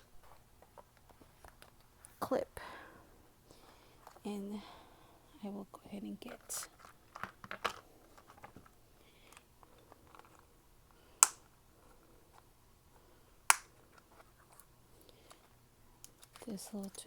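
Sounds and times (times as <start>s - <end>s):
small items rustling on desk: 0.1s - 2.2s, 3.6s - 4.3s, 6.0s - 17.0s.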